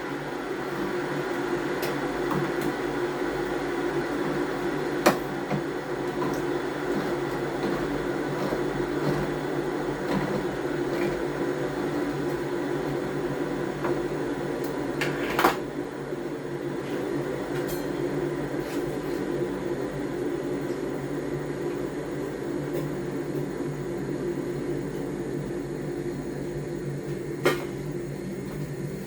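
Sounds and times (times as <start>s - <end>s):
kitchen appliance humming: 0.0s - 29.0s.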